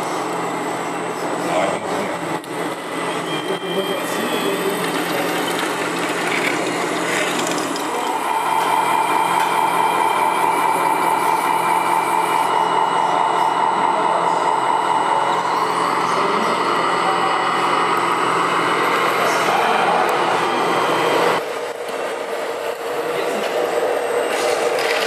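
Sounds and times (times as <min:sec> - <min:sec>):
electric motors whining: 0:00.3 - 0:25.0.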